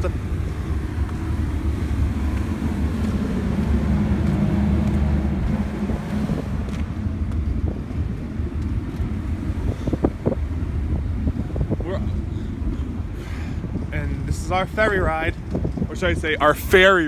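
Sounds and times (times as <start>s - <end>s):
ferry engine rumble: 0.0s - 17.0s
wind buffeting microphone: 0.0s - 17.0s.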